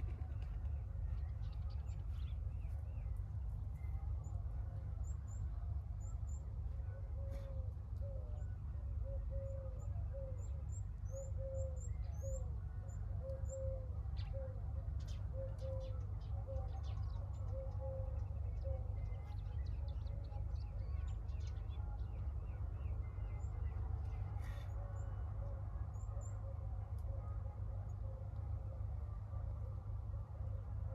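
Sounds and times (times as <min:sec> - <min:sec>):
steady low rumble: 0:00.0 - 0:30.9.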